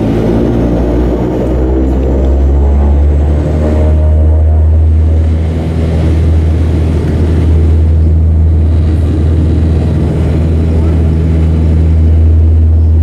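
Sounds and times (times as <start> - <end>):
aircraft engine noise: 0.0 - 13.0
propeller drone: 0.0 - 13.0.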